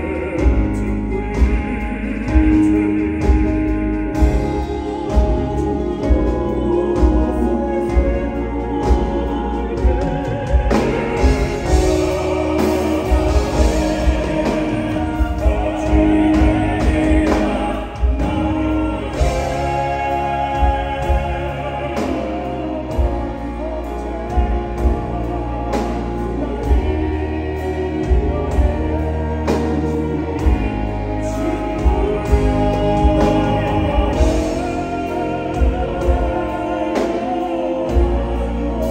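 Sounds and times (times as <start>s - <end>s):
drums: 0.0s - 38.9s
keyboards: 0.0s - 38.9s
male vocal quartet singing: 0.0s - 38.9s.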